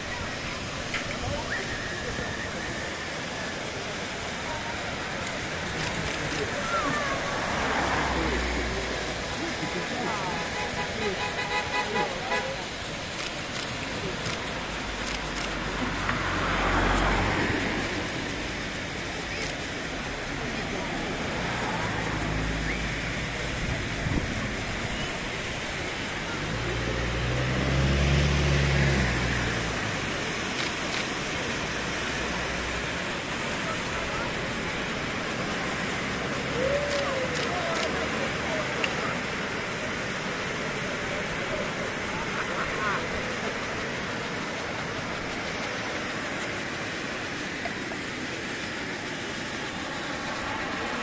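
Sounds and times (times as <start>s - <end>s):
low engine hum: 0.0s - 10.7s, 12.6s - 51.0s
crowd murmur: 0.0s - 51.0s.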